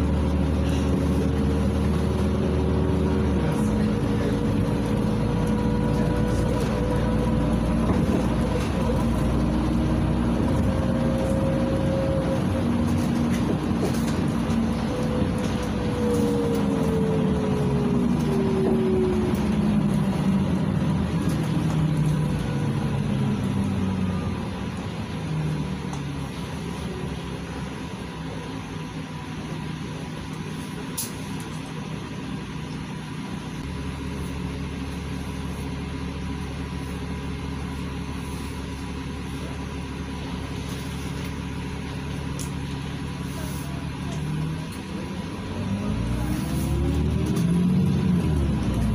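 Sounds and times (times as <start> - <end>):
bus engine and drivetrain: 0.0 - 48.9.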